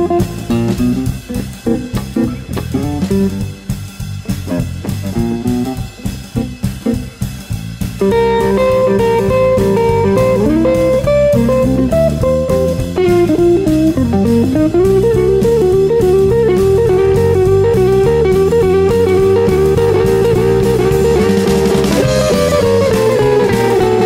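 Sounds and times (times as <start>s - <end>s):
guitar melody: 0.0s - 24.0s
steady drum beat: 0.0s - 24.0s.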